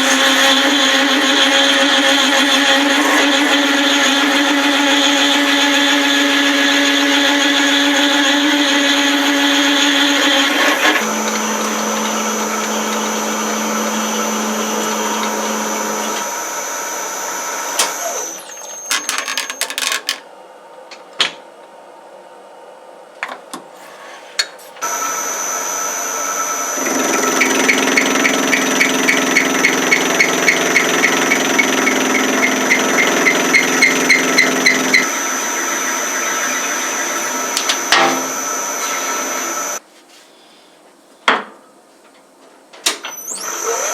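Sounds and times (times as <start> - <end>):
machine tool whining: 0.0 - 20.0, 24.8 - 39.8, 43.1 - 43.9.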